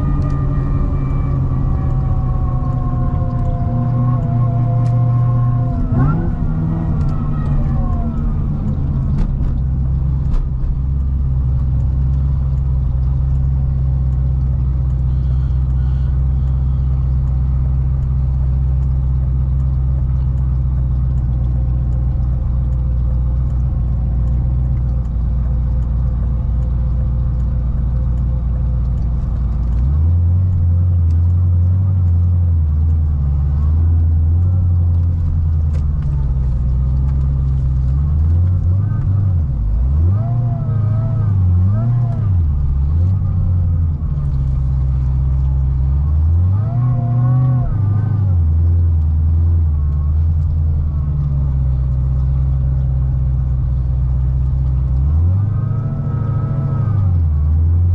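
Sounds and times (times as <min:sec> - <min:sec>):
car engine droning: 0:00.0 - 0:57.9.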